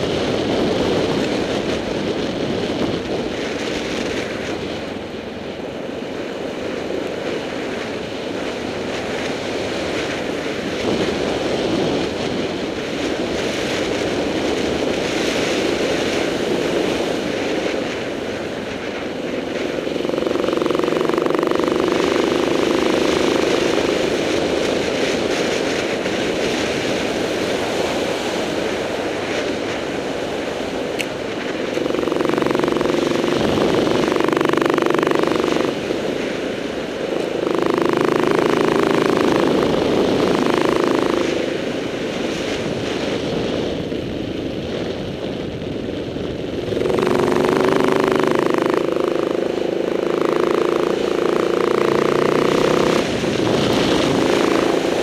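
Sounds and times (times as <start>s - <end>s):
motorcycle engine on dirt trail: 0.0s - 55.0s.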